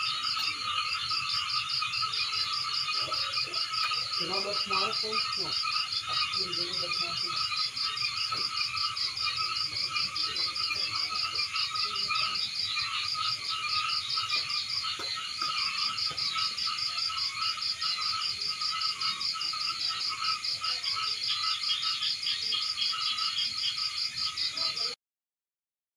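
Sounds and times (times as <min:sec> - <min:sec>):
frogs croaking and chirping: 0:00.0 - 0:25.0.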